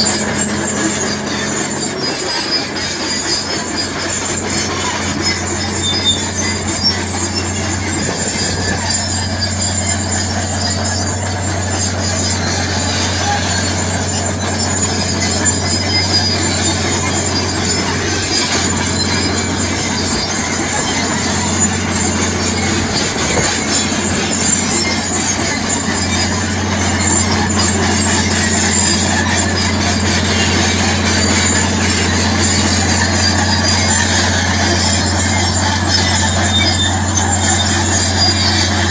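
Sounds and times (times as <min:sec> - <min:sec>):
steel tracks squealing: 0:00.0 - 0:38.9
tractor diesel drone: 0:00.0 - 0:38.9.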